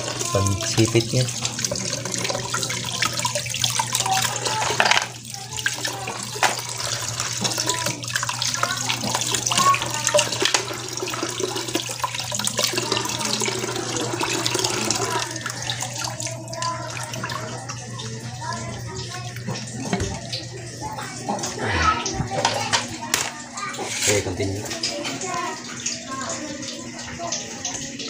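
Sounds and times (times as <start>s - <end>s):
water running and splashing: 0.0s - 28.0s.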